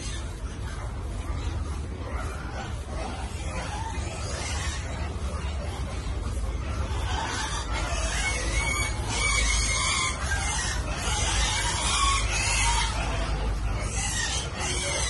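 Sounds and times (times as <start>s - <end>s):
farm animals calling: 0.0s - 15.0s.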